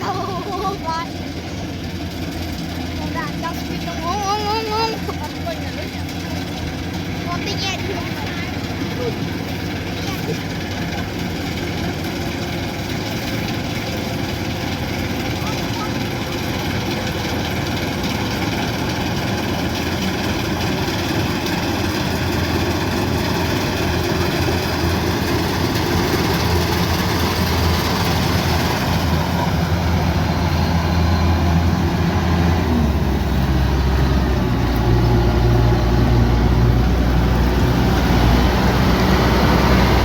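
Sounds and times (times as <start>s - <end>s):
diesel engine rumbling: 0.0s - 40.0s.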